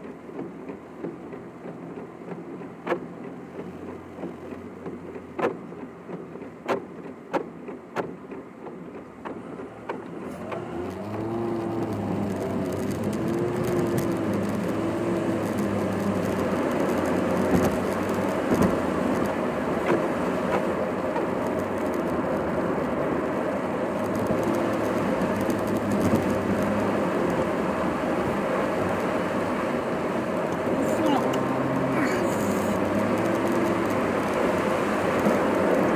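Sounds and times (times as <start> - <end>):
car engine revving through gears: 0.0 - 35.9
road noise: 0.0 - 35.9.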